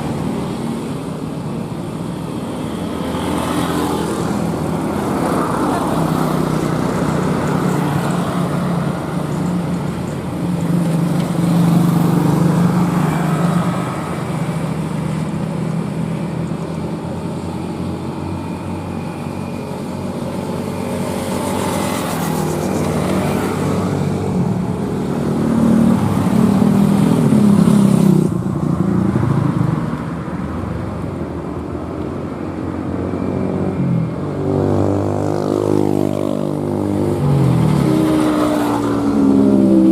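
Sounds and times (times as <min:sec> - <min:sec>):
trucks labouring uphill: 0:00.0 - 0:39.9.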